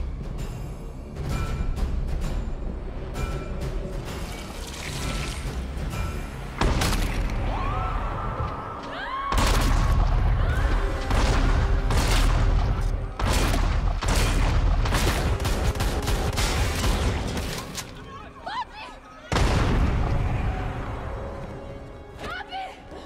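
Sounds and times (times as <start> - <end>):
film score music: 0.0 - 23.0.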